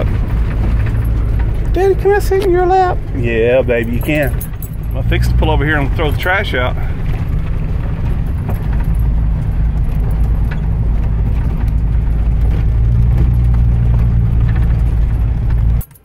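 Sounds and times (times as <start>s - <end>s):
light rattles: 0.0s - 16.0s
vehicle engine drone: 0.0s - 16.0s.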